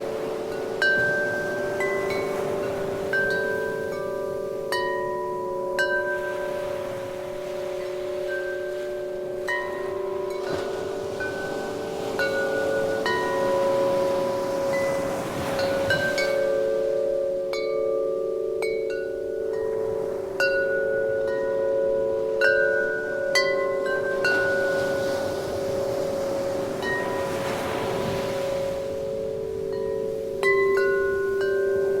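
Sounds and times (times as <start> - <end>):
wind chime ringing: 0.1 - 6.9, 7.8 - 32.0.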